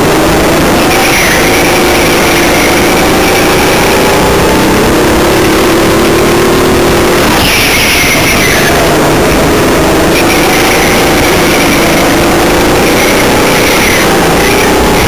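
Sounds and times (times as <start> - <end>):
go-kart engine running hard: 0.0 - 15.0
other go-kart engines: 0.0 - 15.0.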